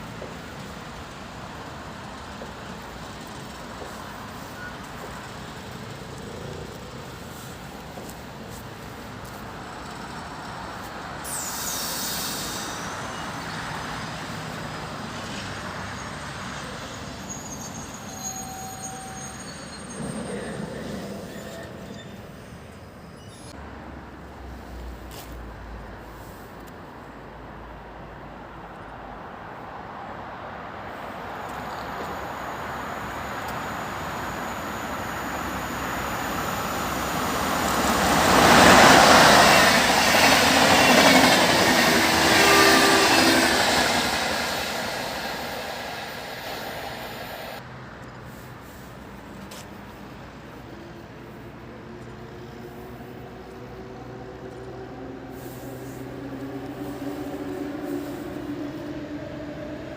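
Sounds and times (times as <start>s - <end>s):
low hum of train: 0.0s - 59.9s
train passing through station: 0.0s - 59.9s.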